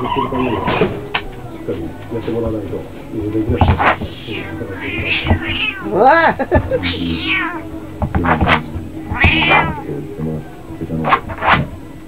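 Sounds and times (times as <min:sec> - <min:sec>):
cat yowling: 0:00.0 - 0:02.6, 0:03.4 - 0:11.4.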